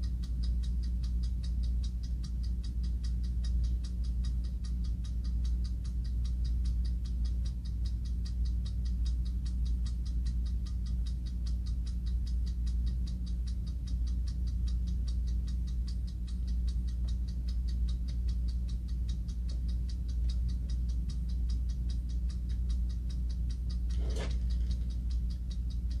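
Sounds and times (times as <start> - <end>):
mechanical clock ticking: 0.0 - 26.0.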